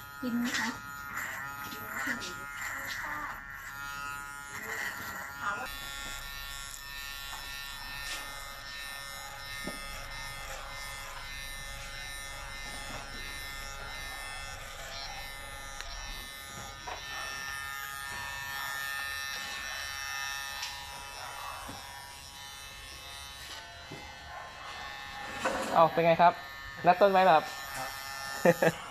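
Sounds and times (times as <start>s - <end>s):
electric hair clippers buzzing: 0.0s - 28.9s.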